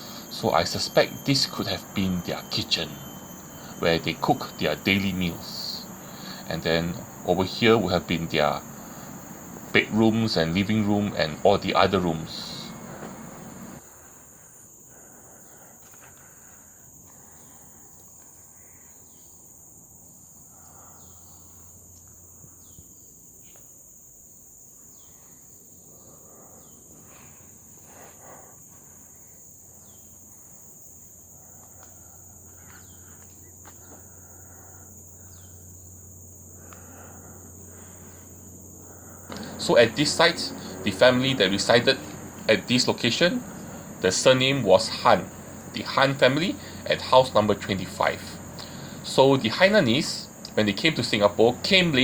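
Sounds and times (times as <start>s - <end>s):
forest insects droning: 0.0s - 52.0s.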